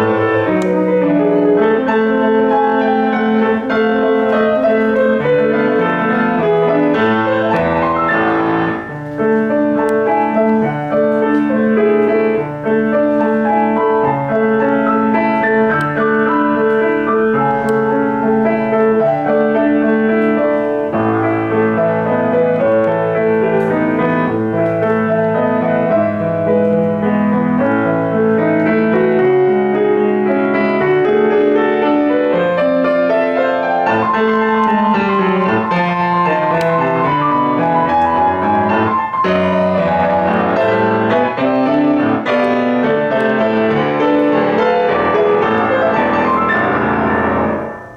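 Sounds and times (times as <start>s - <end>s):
piano playing: 0.0s - 47.9s.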